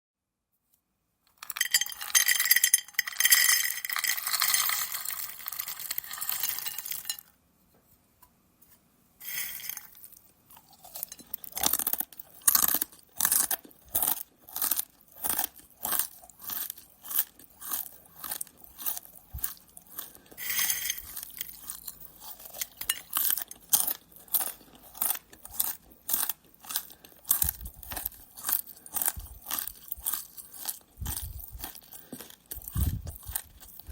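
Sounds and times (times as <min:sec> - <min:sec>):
person crunching corn nuts: 0:01.3 - 0:07.2, 0:09.2 - 0:33.9
corn nuts rattling and clinking: 0:01.3 - 0:07.3, 0:09.2 - 0:33.9.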